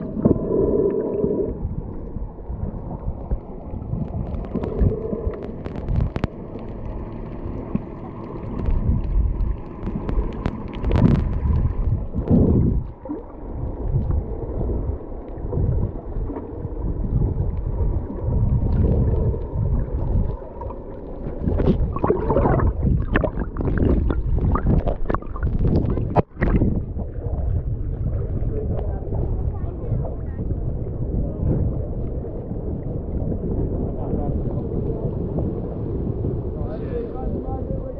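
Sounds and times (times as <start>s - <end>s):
muffled water sloshing and gurgling: 0.0s - 37.9s.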